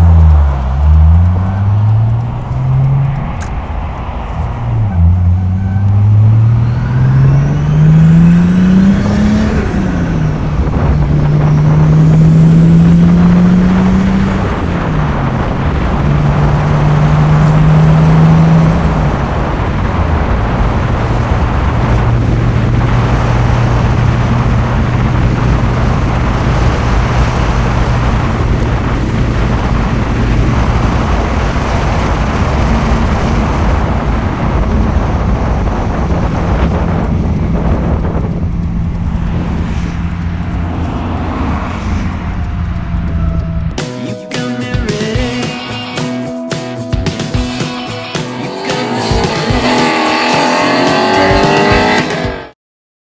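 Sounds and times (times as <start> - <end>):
car engine revving through gears: 0.0 - 43.8, 47.4 - 52.6
faint high turbo whine: 0.0 - 44.0.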